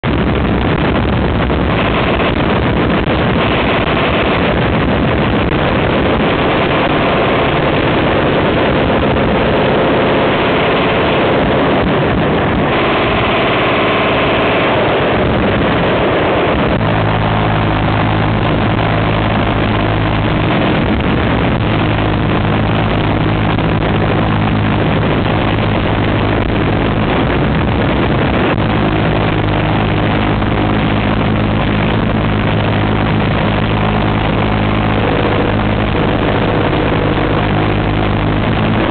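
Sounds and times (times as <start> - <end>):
steady low buzz: 0.0 - 38.9.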